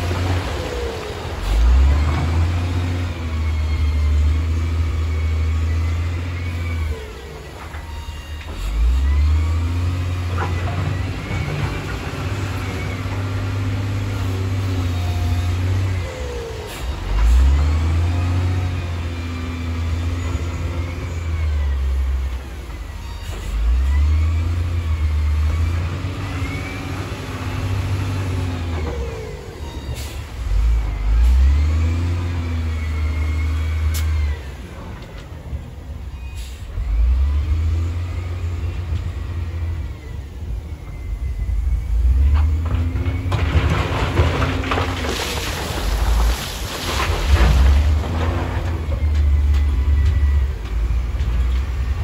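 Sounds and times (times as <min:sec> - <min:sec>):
diesel engine working under load: 0:00.0 - 0:52.0.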